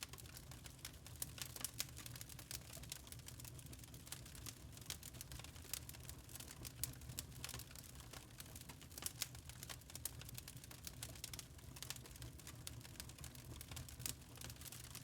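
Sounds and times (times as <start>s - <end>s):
log fire crackling: 0.0s - 15.0s
low fire rumble: 0.0s - 15.0s.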